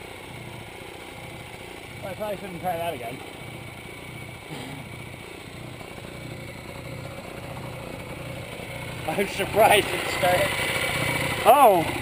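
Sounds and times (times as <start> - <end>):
small motorcycle engine idling: 0.0 - 12.0.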